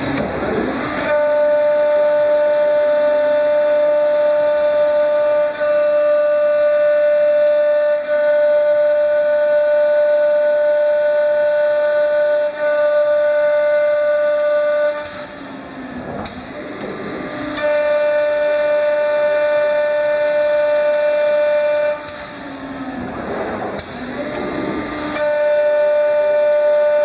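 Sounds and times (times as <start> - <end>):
spindle motor high-pitched whine: 0.0 - 27.0.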